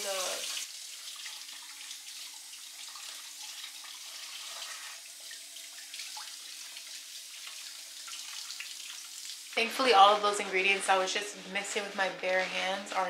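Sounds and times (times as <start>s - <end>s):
faucet water splashing in sink: 0.0s - 11.1s.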